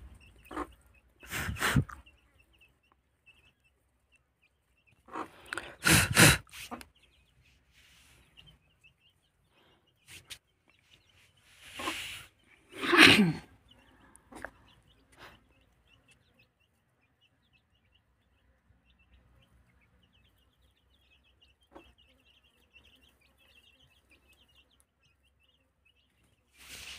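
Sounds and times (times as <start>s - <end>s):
chicks peeping: 0.0s - 26.9s.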